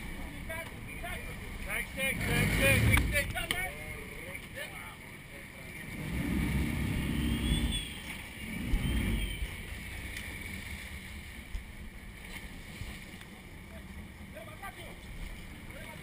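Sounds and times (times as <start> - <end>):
boat engine rumble: 0.0 - 16.0
water churning along hull: 0.0 - 16.0.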